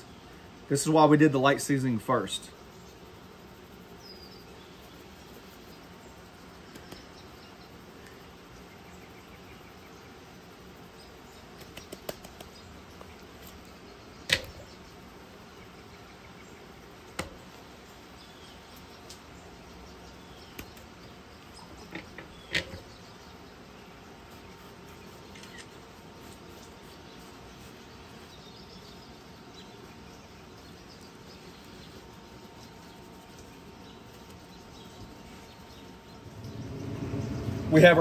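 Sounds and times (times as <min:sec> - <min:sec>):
faint background hum: 0:00.0 - 0:38.0.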